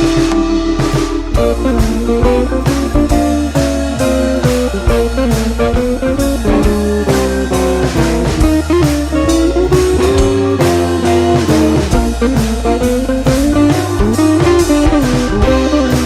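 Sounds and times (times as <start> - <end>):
blues-rock music with guitar: 0.0 - 16.0.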